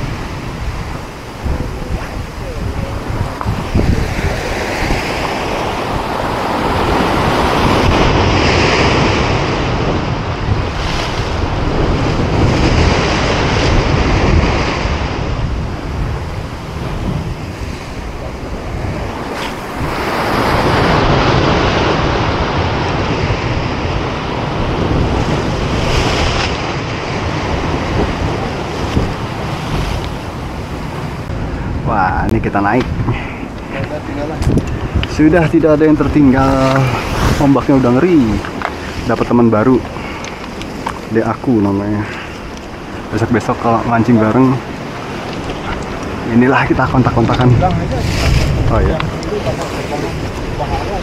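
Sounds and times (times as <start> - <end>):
surf breaking over rocks: 0.0 - 51.0
wind buffeting microphone: 0.0 - 51.0.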